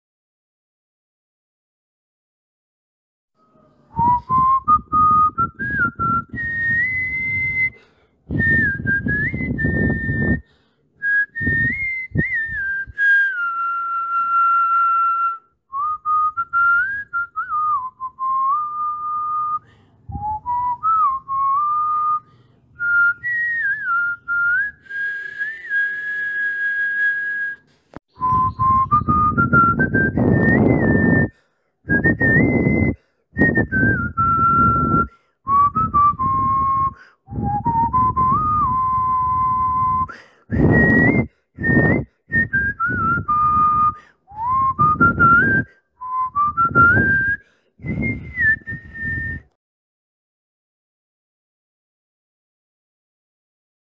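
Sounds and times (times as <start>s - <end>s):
whistled tune: 3.4s - 49.6s.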